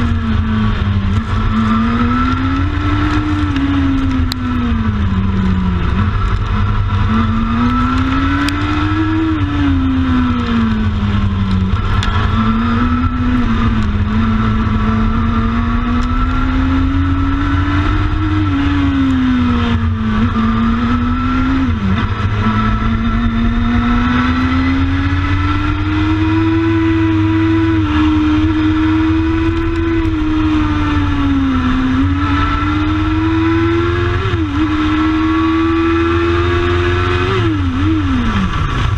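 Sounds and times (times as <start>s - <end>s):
racing motorcycle engine at speed: 0.0s - 38.9s.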